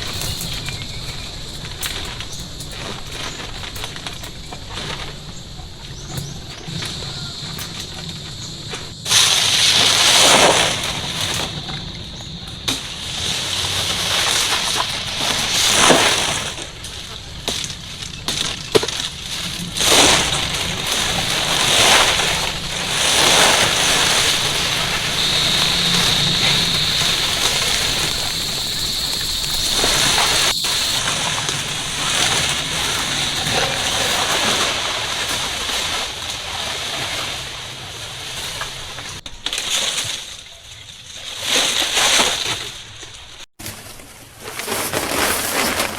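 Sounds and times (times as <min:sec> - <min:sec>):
water sloshing and splashing: 0:00.0 - 0:44.0.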